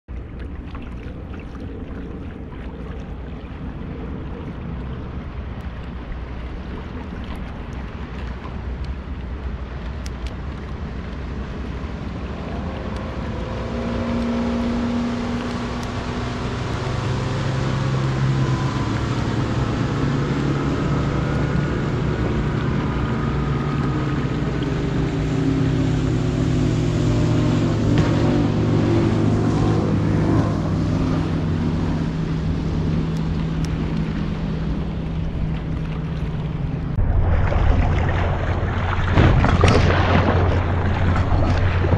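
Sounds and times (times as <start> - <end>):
motorboat engine droning: 0.0 - 41.9
water noise: 0.0 - 41.9
wind: 0.0 - 41.9.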